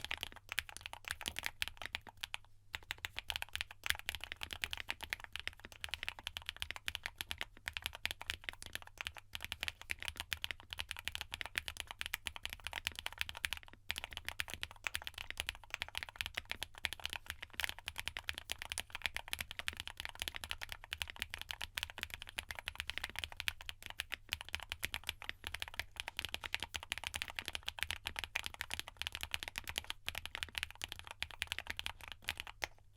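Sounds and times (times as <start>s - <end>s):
mechanical keyboard typing: 0.0s - 32.8s.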